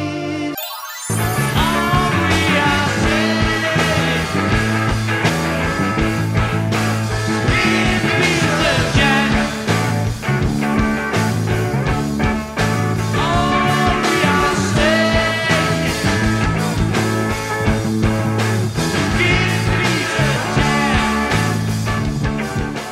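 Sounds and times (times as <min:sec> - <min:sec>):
rock music: 0:00.6 - 0:22.9.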